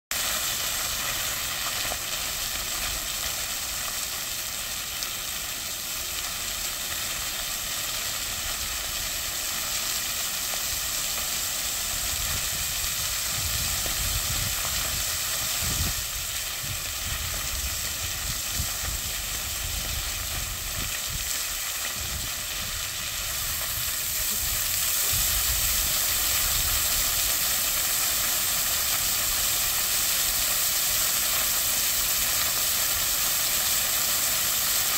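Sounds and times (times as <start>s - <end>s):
fountain water splashing on stone: 0.1s - 34.9s.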